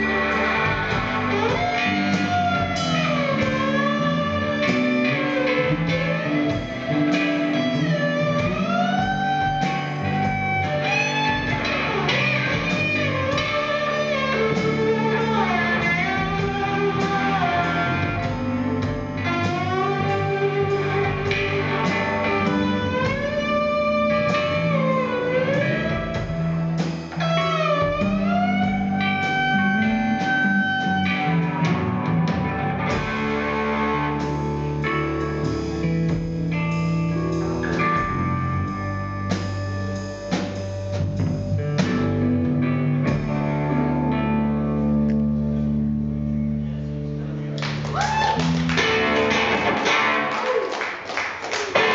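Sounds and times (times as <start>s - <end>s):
bending lead guitar line: 0.0s - 51.9s
rock band playing live: 0.0s - 51.9s.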